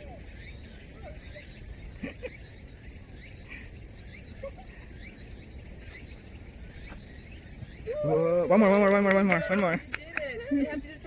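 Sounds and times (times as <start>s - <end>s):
bird chirps: 0.0s - 11.0s
insects buzzing: 0.0s - 11.0s.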